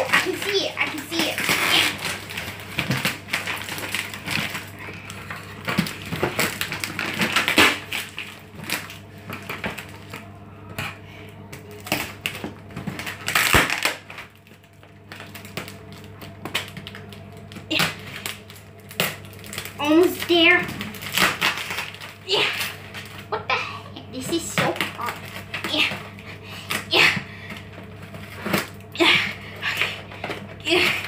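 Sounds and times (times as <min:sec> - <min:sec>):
packing tape peeling and tearing: 0:00.0 - 0:10.2, 0:11.7 - 0:23.4, 0:24.2 - 0:31.0.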